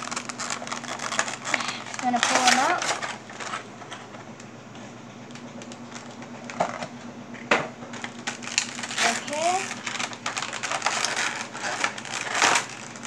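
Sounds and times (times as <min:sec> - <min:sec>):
plastic packaging handled: 0:00.0 - 0:04.2, 0:05.3 - 0:07.0, 0:07.9 - 0:13.0
steady low hum: 0:00.0 - 0:13.0.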